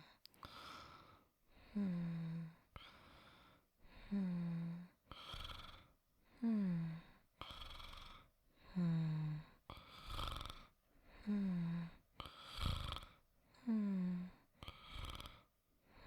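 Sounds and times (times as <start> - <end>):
person snoring softly: 0.4 - 16.0.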